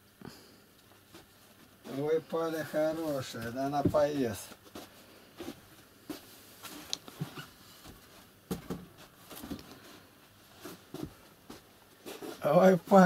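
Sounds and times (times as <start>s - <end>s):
person moving about: 0.8s - 13.0s.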